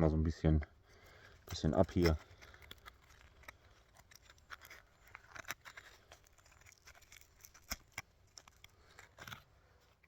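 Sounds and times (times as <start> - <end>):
sharp bark crackle: 0.8 - 10.0
bark scratching and tearing: 1.1 - 10.0.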